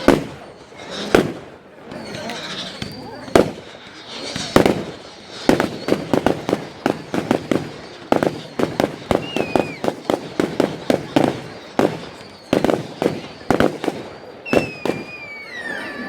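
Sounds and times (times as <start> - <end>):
fireworks exploding: 0.0 - 16.0.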